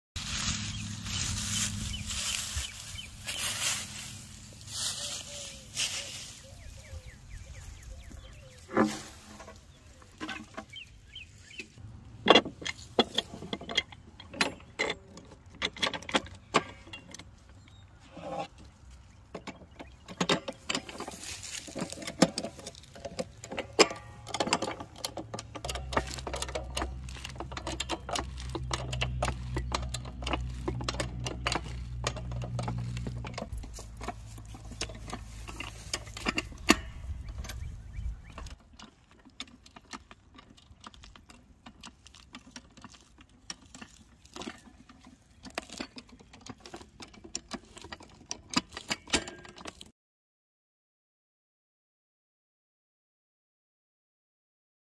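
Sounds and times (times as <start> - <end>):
metal tools clanking: 0.4 - 49.9.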